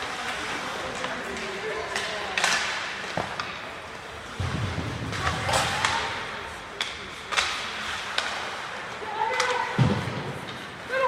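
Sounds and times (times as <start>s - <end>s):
hockey sticks and puck clacking: 0.0s - 10.9s.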